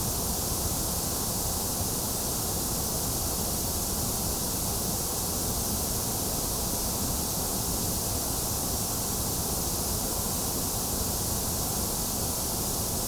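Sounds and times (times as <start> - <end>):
white noise hiss: 0.0 - 13.0.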